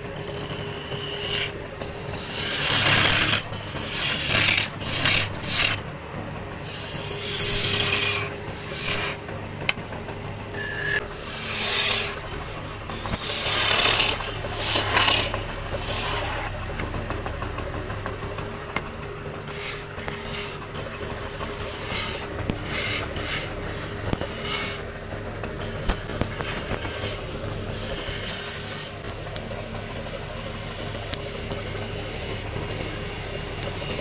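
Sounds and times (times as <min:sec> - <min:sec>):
chisel scraping spinning wood: 0:00.0 - 0:34.0
wood lathe motor humming: 0:00.0 - 0:34.0.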